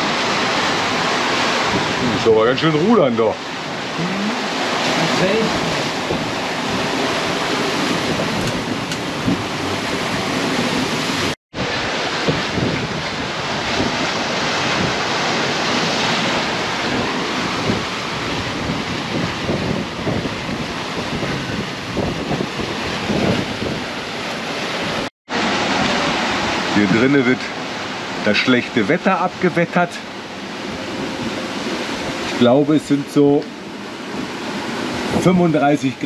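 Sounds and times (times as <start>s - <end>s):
wind buffeting microphone: 0.0s - 28.3s, 33.2s - 36.0s
rough sea breaking: 0.0s - 36.0s.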